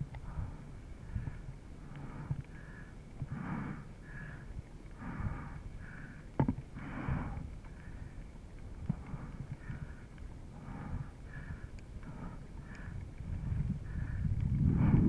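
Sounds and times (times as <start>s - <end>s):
heavy rhythmic breathing: 0.0s - 15.0s.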